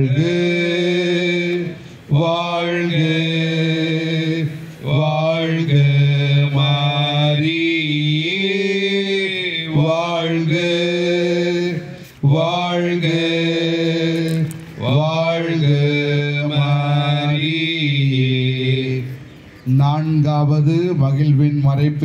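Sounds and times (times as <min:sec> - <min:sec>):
man chanting a sung prayer: 0:00.0 - 0:22.0.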